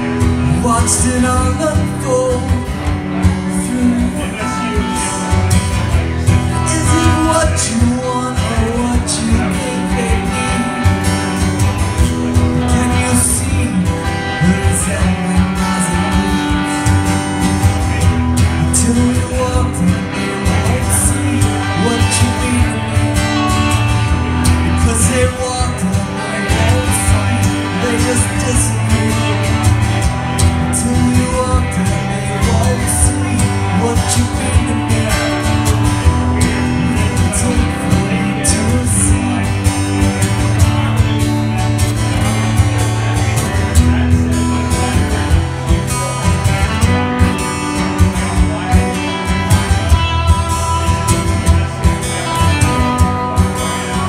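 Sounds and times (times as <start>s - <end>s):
bass: 0.0s - 54.0s
guitar: 0.0s - 54.0s
person singing: 0.0s - 54.0s.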